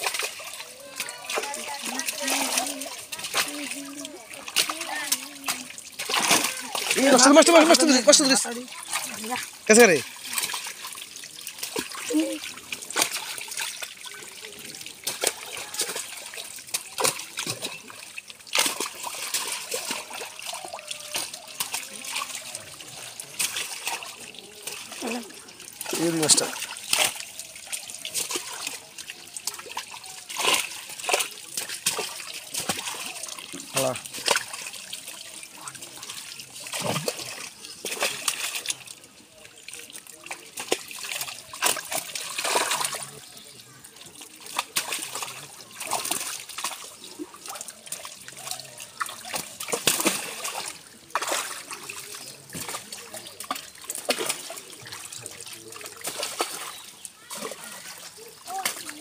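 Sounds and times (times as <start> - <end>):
shallow water splashing: 0.0 - 59.0.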